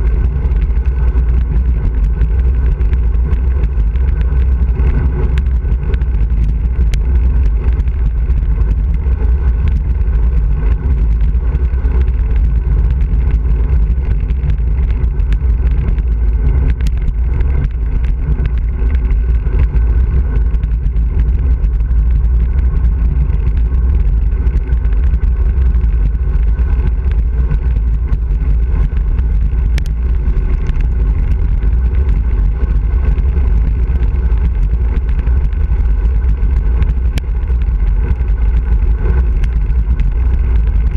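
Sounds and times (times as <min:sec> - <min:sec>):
road noise: 0:00.0 - 0:40.9
wind rushing over microphone: 0:00.0 - 0:40.9
light ticks: 0:00.3 - 0:40.9.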